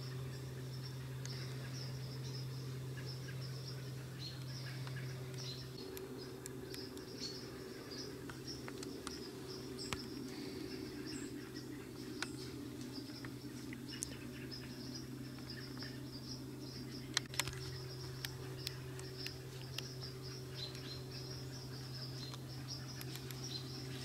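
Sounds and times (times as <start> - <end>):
bird chirps: 0.0 - 24.0
insects trilling: 0.0 - 24.0
steady low hum: 0.0 - 24.0.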